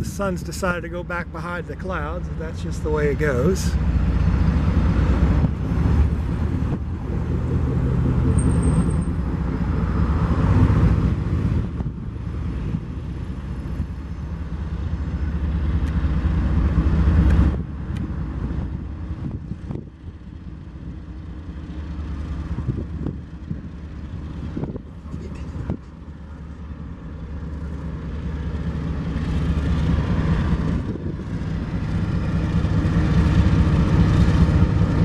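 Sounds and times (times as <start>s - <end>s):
locomotive low rumble: 0.0s - 35.0s.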